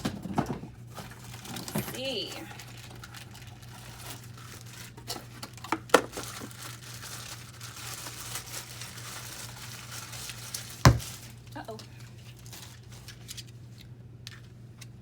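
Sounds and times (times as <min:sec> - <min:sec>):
plastic and cardboard crinkling: 0:00.0 - 0:14.6.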